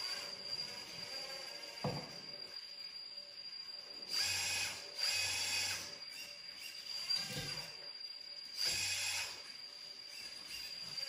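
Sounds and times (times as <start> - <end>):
steady high whine: 0.0 - 11.0.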